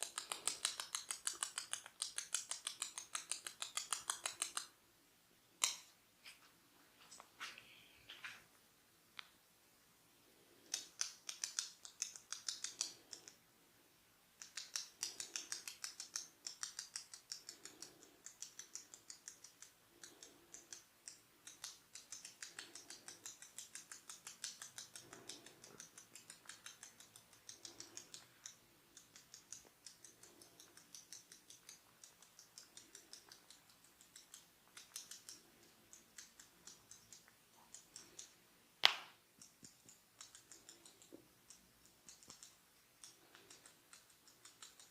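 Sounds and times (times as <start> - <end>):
hair cracking snaps: 0.0 - 4.7, 10.6 - 13.4, 14.4 - 44.9.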